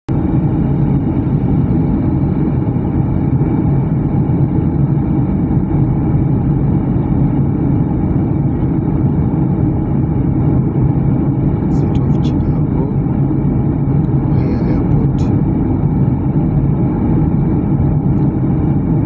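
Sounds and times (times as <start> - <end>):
airliner cabin engine rumble: 0.1 - 19.0.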